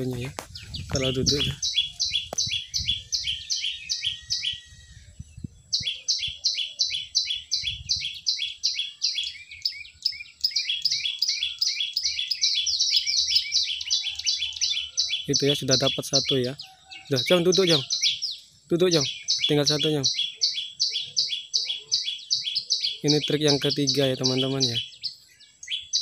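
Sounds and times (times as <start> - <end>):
bird calling sharp chirps: 0.0 - 26.0.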